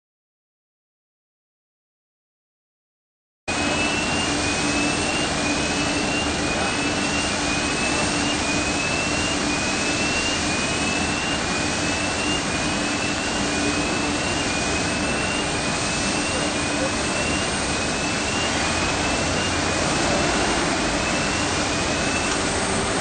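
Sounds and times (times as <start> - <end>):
jet aircraft hum and rush: 3.5 - 23.0.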